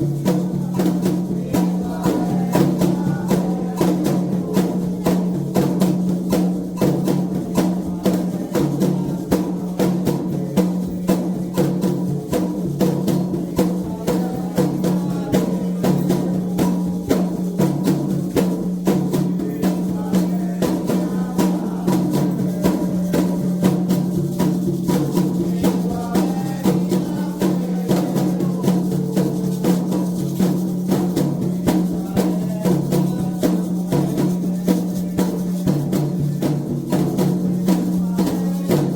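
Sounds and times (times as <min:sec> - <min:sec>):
hand drums drumming: 0:00.0 - 0:38.9.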